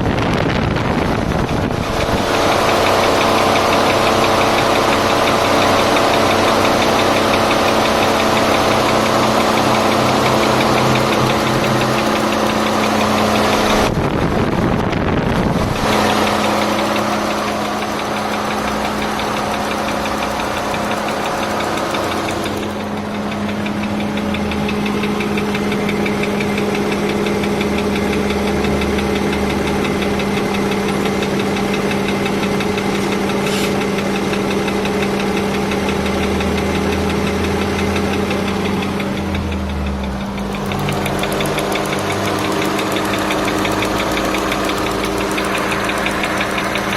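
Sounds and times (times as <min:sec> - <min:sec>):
car engine running: 0:00.0 - 0:46.9
rhythmic engine knock: 0:00.0 - 0:46.9.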